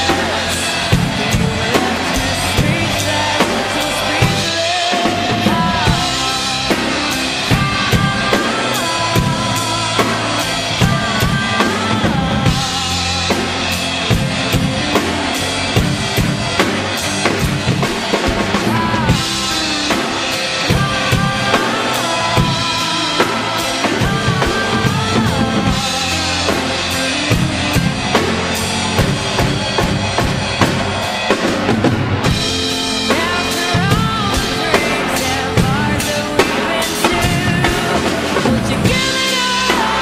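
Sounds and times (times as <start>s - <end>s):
backing music: 0.0s - 40.0s
drum kit playing: 0.0s - 40.0s.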